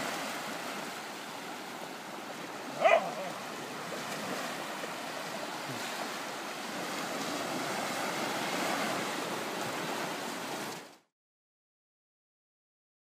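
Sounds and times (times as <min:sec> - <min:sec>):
sea waves washing on sand: 0:00.0 - 0:11.0.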